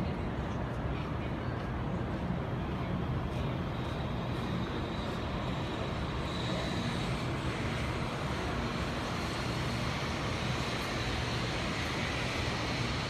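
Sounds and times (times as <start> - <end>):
faint high whine: 0.0 - 13.0
train running noise: 0.0 - 13.0.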